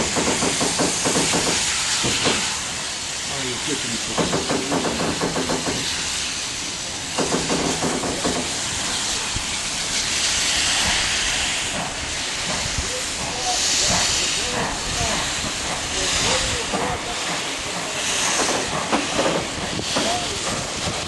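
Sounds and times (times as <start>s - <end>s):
steam hissing: 0.0s - 21.0s.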